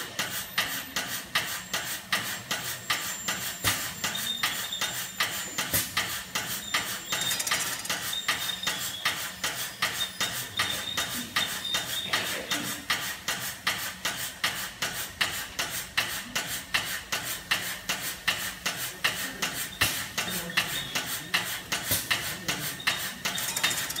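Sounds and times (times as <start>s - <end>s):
machine clicking rapidly: 0.0s - 24.0s.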